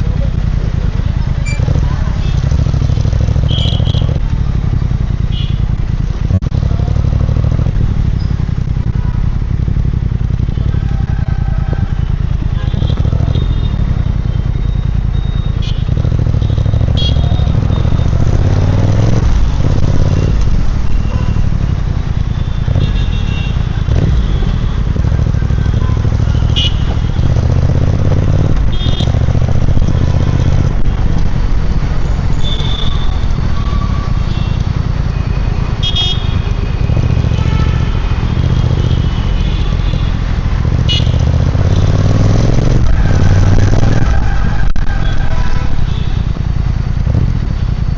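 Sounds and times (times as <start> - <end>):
motorcycle engine and exhaust: 0.0 - 47.9.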